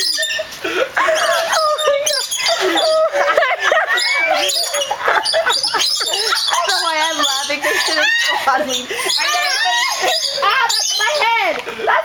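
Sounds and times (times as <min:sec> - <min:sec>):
flock of birds chattering: 0:00.0 - 0:12.0.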